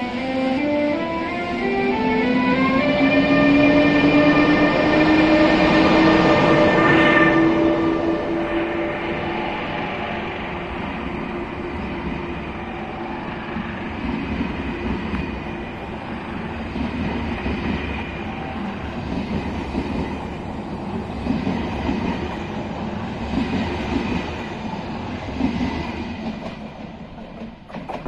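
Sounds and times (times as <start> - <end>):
electric locomotive passing: 0.0 - 28.0
train wheels clattering on track: 2.7 - 28.0.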